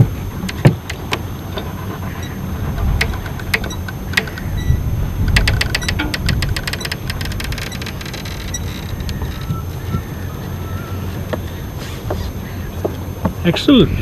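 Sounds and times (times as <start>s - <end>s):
boat tackle clicking and knocking: 0.0s - 10.5s, 11.2s - 13.9s.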